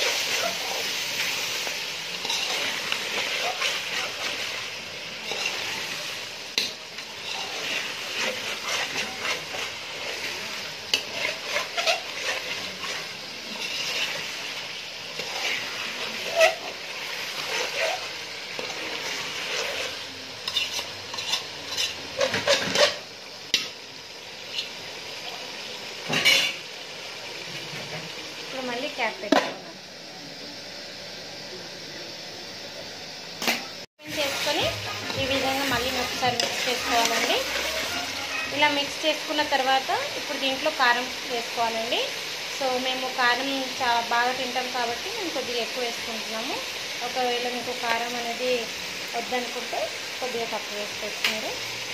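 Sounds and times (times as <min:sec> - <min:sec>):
chicken and onions sizzling: 0:00.0 - 0:51.9.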